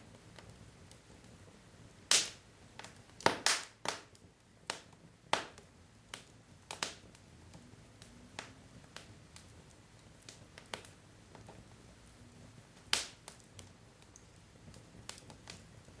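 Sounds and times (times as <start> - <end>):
logs crackling in a fireplace: 0.0 - 16.0.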